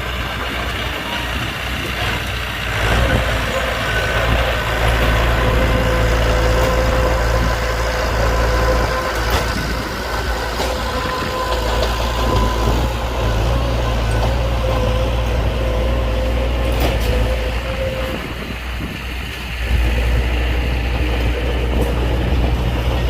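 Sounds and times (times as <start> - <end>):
heavy machinery engine running: 0.0 - 23.0.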